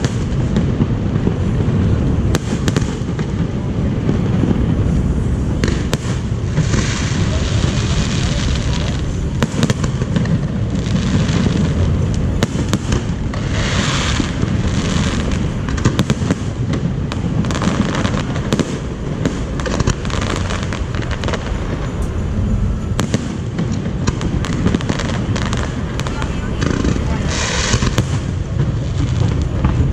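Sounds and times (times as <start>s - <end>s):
fireworks bursting: 0.0s - 29.9s
fireworks crackling: 0.0s - 29.9s.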